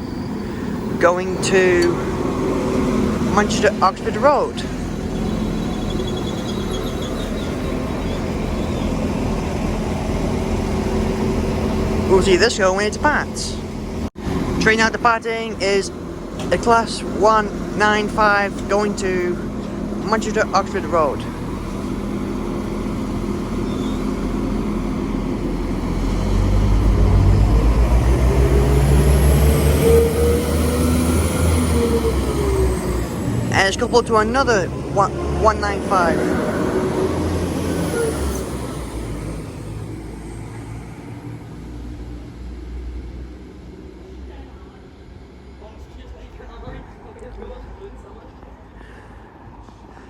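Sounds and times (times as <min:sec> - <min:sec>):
diesel train engines humming: 0:00.0 - 0:50.0.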